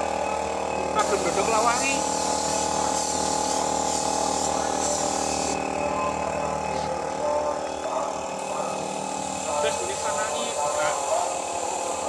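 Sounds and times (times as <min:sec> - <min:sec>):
steady motor hum: 0:00.0 - 0:12.0
air spray gun hissing: 0:00.9 - 0:07.1, 0:08.1 - 0:12.0.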